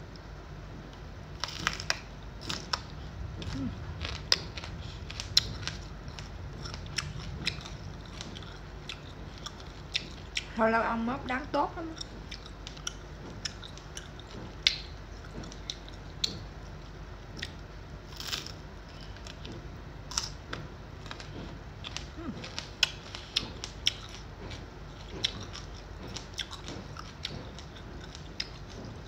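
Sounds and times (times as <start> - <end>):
crunchy chewing: 0.9 - 10.6, 11.9 - 29.0.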